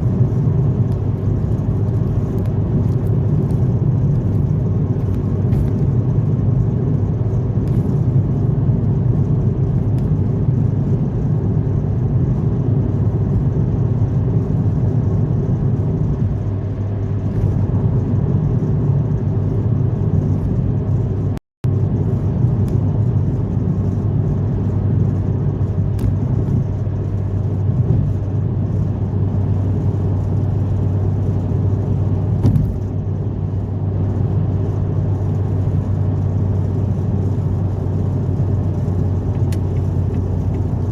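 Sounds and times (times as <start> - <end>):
car engine drone: 0.0 - 40.9
tyre and road rumble: 0.0 - 40.9.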